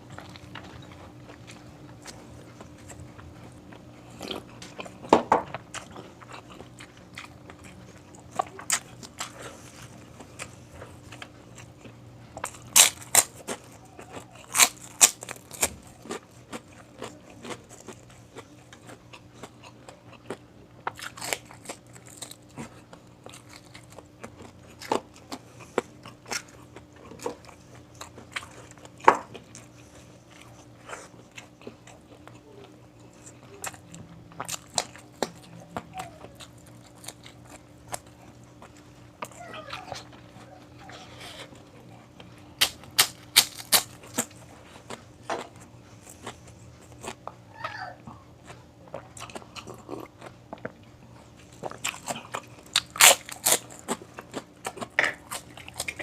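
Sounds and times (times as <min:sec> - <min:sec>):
chewing: 0:00.0 - 0:56.0
crunching fried food: 0:00.0 - 0:56.0
faint steady hum: 0:00.0 - 0:56.0.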